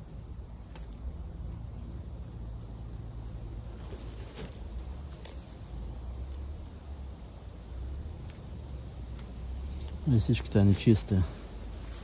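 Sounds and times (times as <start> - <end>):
mushrooms rustling: 0.0 - 12.0
steady low rumble: 0.0 - 12.0.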